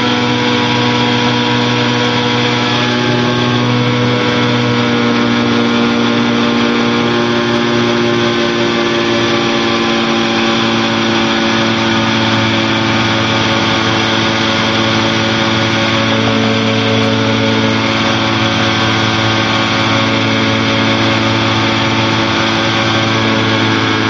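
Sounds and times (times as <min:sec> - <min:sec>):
aircraft propeller engine drone: 0:00.0 - 0:24.0.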